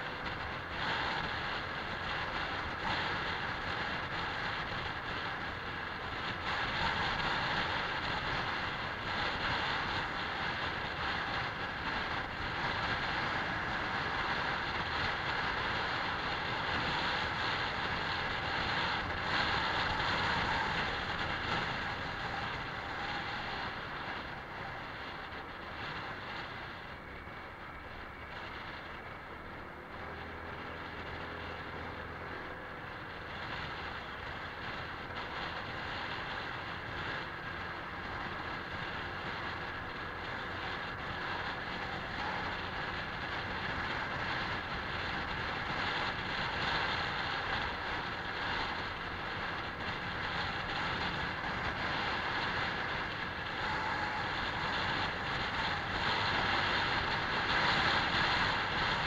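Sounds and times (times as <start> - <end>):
scooter engine: 0.0 - 59.0
wind rushing over microphone: 0.0 - 59.0.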